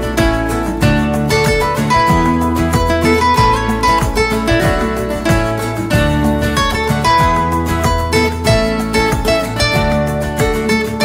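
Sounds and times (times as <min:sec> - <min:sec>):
bass line: 0:00.0 - 0:11.0
plucked acoustic guitar music: 0:00.0 - 0:11.0.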